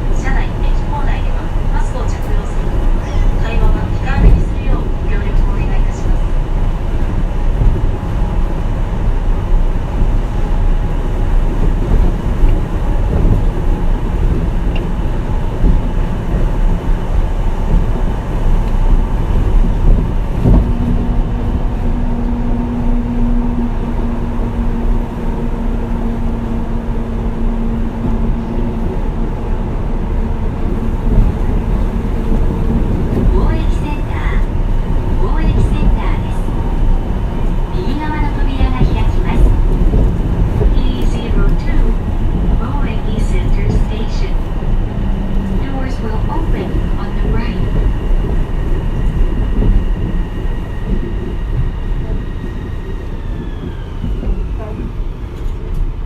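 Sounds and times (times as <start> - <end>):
train rumbling at speed: 0.0 - 56.0.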